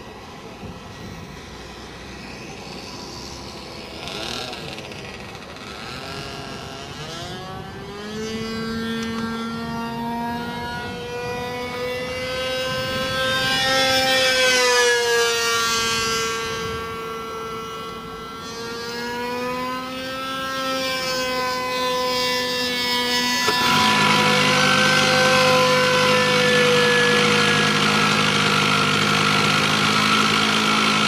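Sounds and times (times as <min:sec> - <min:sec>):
model airplane engine whining: 0:00.0 - 0:31.0.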